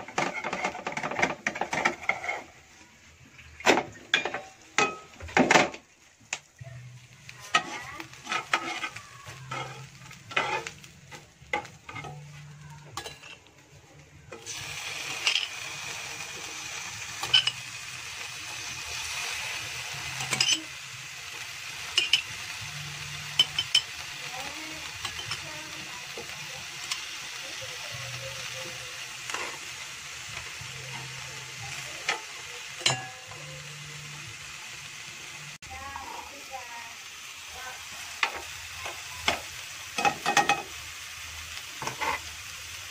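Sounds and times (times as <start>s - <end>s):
meat sizzling in a frying pan: 4.6s - 13.4s, 14.3s - 42.9s.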